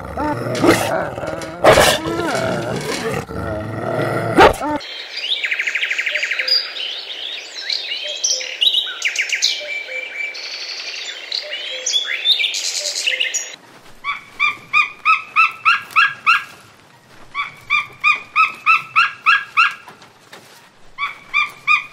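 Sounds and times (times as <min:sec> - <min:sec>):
birds chirping and trilling: 0:00.0 - 0:21.9.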